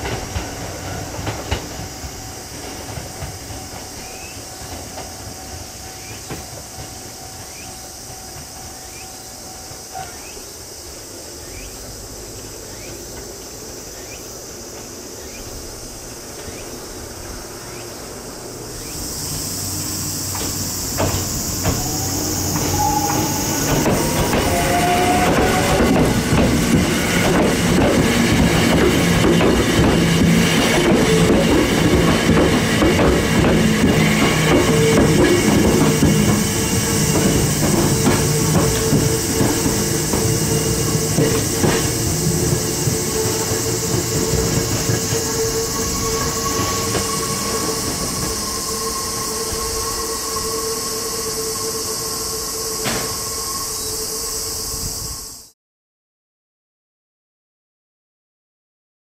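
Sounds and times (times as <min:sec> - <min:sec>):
distant electric train rumble: 0:00.0 - 0:55.5
insect chorus: 0:00.0 - 0:55.6.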